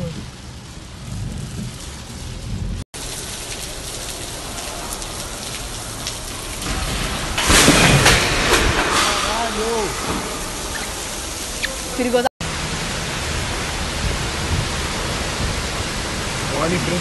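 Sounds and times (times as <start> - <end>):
rushing rainwater pouring: 0.0 - 17.0.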